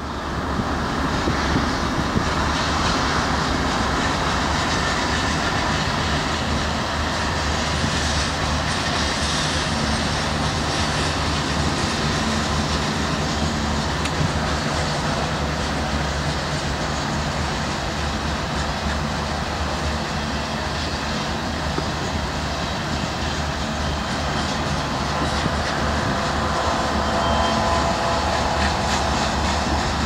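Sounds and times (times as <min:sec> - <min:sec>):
freight train cars rolling on rails: 0:00.0 - 0:30.0.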